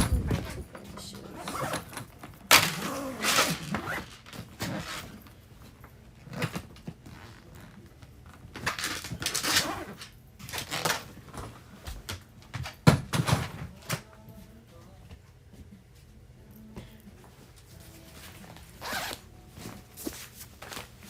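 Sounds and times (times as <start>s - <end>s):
rustling of things handled: 0.0s - 21.0s.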